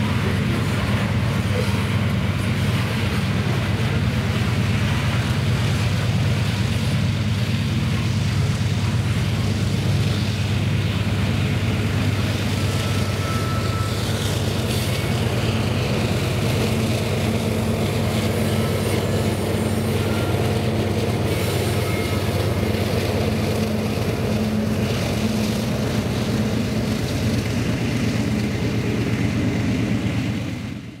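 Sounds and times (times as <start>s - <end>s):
diesel locomotive engine drone: 0.0s - 31.0s
wheels rumbling on rail: 0.0s - 31.0s.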